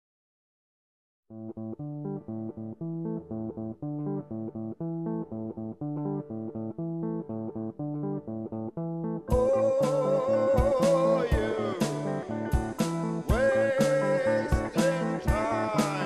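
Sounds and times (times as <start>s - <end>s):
plucked guitar over bass line: 1.3s - 16.0s.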